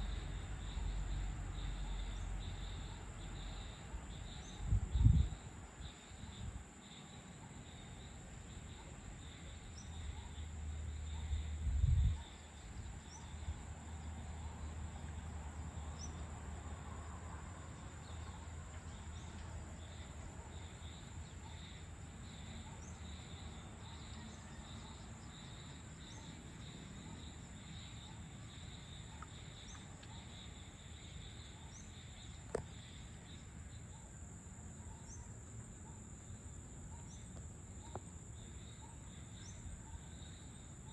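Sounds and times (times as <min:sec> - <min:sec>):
crickets and insects chirping: 0:00.0 - 0:40.9.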